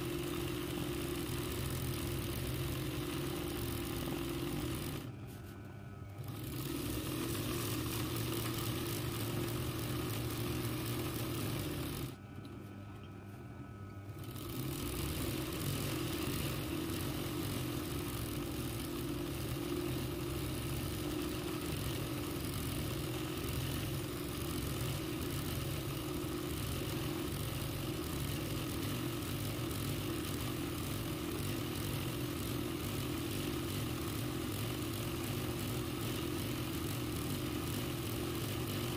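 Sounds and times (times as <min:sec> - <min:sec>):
sewing machine running: 0:00.0 - 0:05.1, 0:06.1 - 0:12.2, 0:14.1 - 0:38.9.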